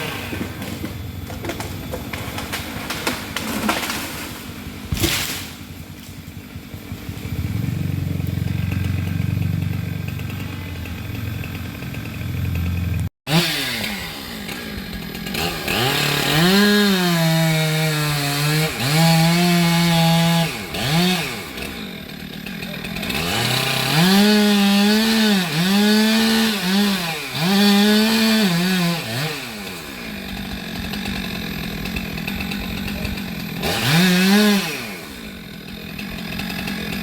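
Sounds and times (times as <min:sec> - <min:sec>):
chainsaw running and revving: 0:00.0 - 0:37.0.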